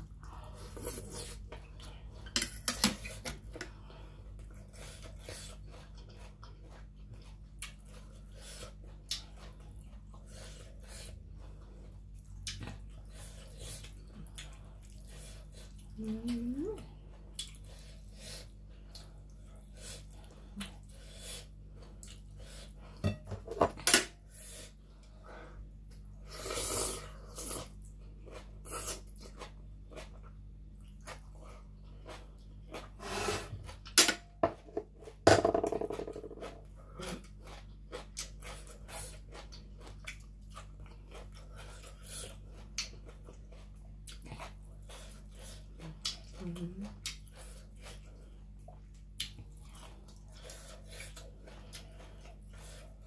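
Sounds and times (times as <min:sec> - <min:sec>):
person chewing: 0:00.0 - 0:23.2, 0:24.6 - 0:34.0, 0:36.4 - 0:53.0.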